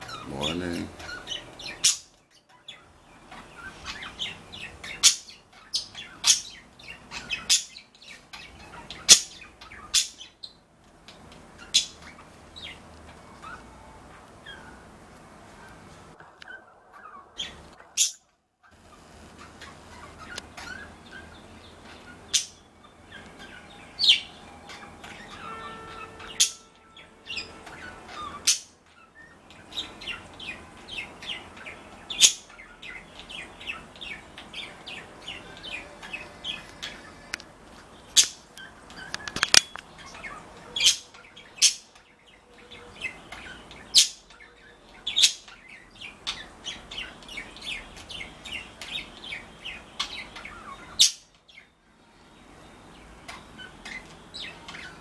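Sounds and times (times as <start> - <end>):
budgies chirping: 0.0 - 55.0
budgies warbling: 0.0 - 55.0.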